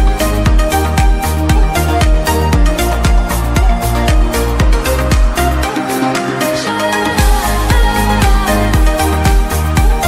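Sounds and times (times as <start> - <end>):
upbeat dance-pop music: 0.0 - 10.0.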